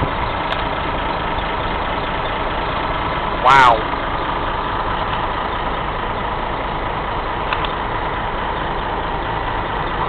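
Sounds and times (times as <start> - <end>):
fire engine diesel idling: 0.0 - 10.0.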